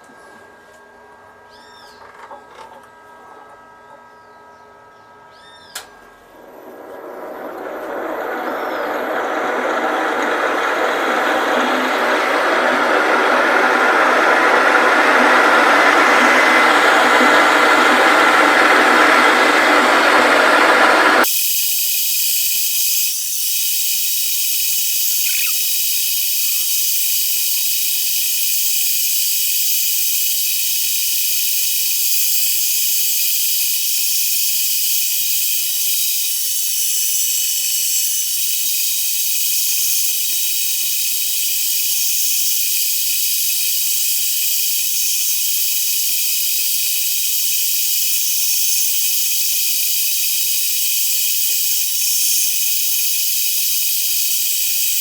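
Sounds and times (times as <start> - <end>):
machine tool high-pitched hiss: 6.7 - 55.0.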